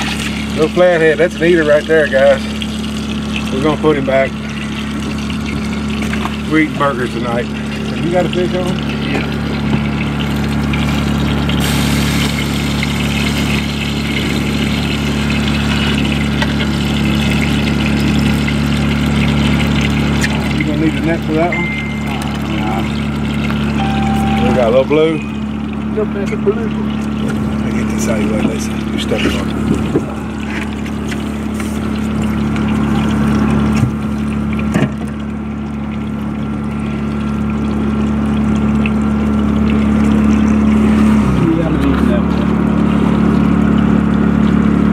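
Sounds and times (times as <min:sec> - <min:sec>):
small boat motor humming: 0:00.0 - 0:44.9.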